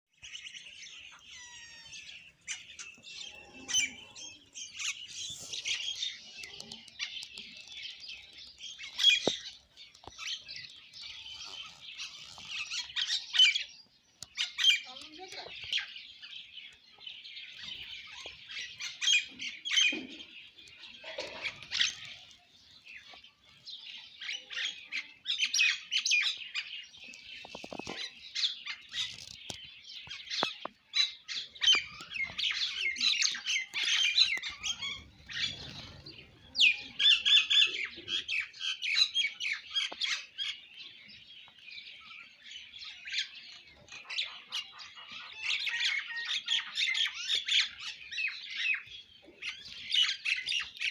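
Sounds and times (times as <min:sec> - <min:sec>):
sparrows chirping: 0:00.1 - 0:50.9.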